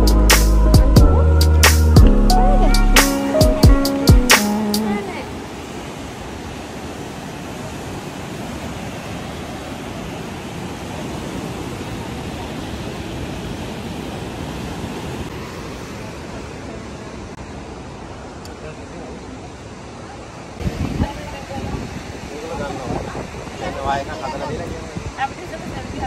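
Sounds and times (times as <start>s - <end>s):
sea surf washing over rocks: 3.2s - 26.0s.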